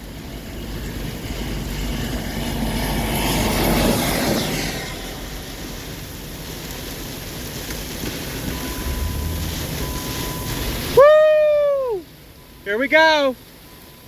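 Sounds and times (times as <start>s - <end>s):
strong wind gusting: 0.0s - 12.1s.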